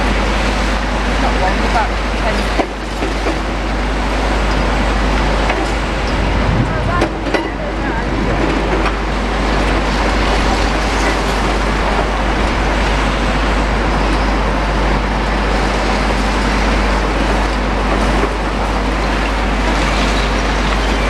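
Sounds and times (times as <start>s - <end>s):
demolition machines working: 0.0s - 21.0s.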